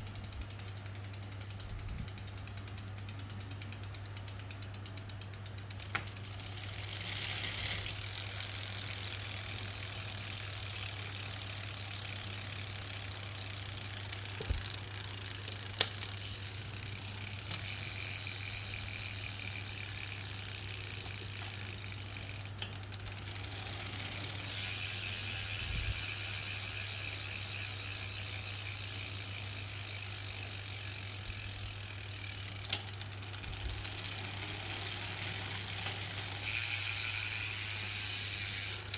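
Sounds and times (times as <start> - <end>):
bicycle drivetrain clicking: 0.0 - 38.9.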